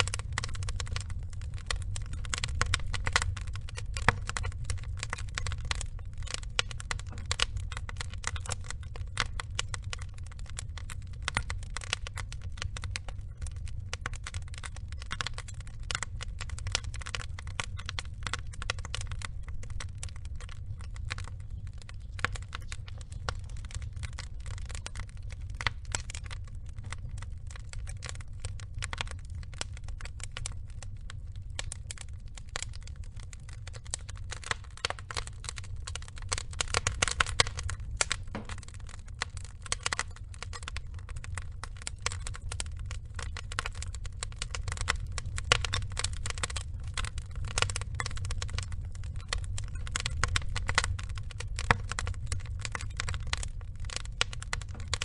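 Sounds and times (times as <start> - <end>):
burning logs crackling and popping: 0.0 - 55.0
low rumble of fire: 0.0 - 55.0.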